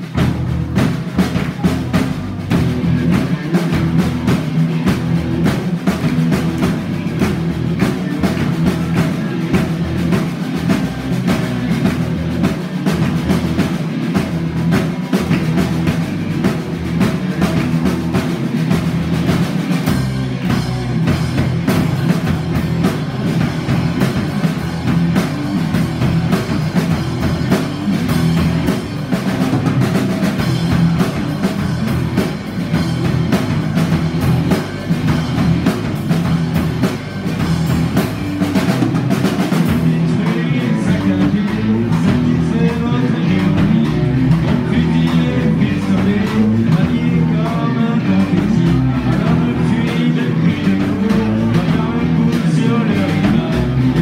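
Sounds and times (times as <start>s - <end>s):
drum kit beat: 0.0s - 54.0s
live band playing: 0.0s - 54.0s.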